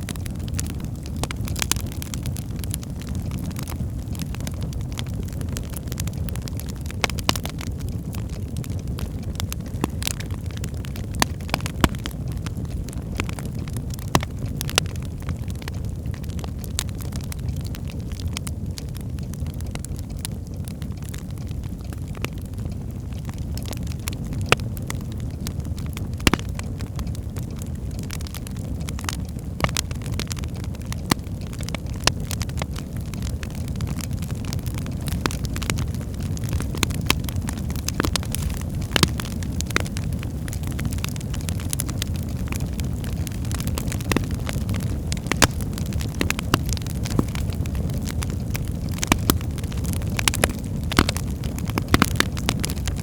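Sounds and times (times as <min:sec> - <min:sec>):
fire crackles and pops: 0:00.0 - 0:53.0
fire rumbling in fireplace: 0:00.0 - 0:53.0.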